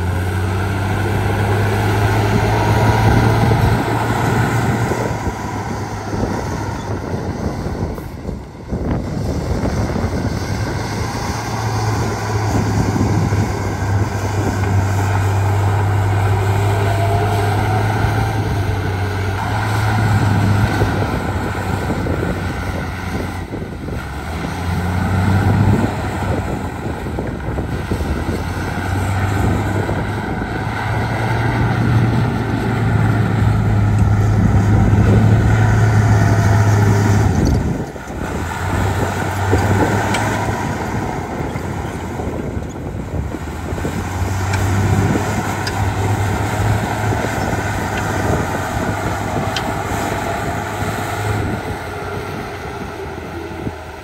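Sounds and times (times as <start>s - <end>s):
heavy machinery diesel engine: 0.0s - 54.0s.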